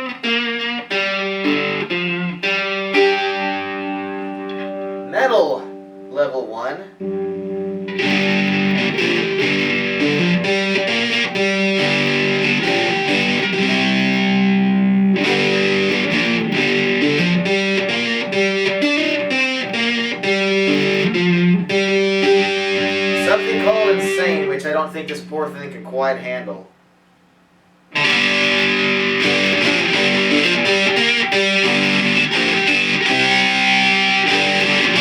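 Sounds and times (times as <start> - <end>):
distorted electric banjo: 0.0 - 26.6, 27.9 - 35.0.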